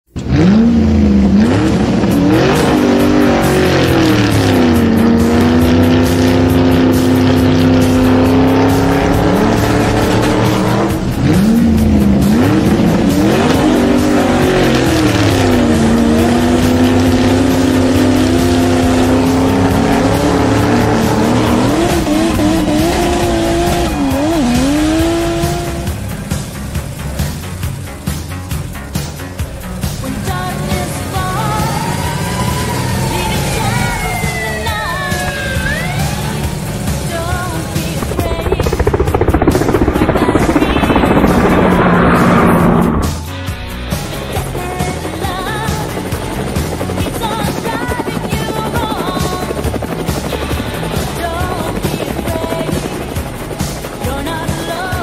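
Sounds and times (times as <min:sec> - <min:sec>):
racing car engine revving: 0:00.1 - 0:50.9
music: 0:00.1 - 0:55.0.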